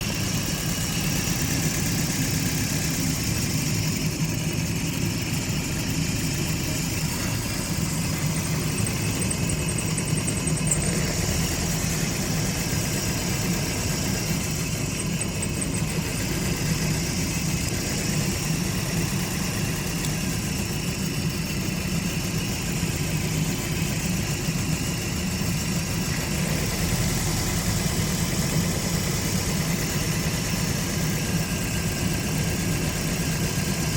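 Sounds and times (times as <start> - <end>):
car engine idling with misfire: 0.0 - 33.9.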